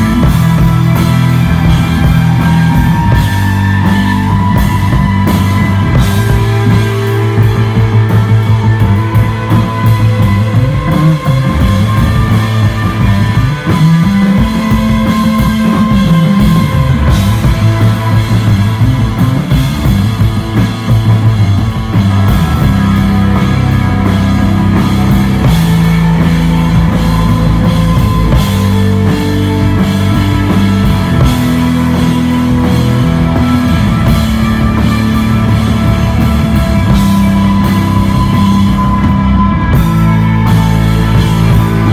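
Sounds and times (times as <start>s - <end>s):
bass guitar: 0.0s - 41.9s
drum kit: 0.0s - 41.9s
electric guitar: 0.0s - 41.9s.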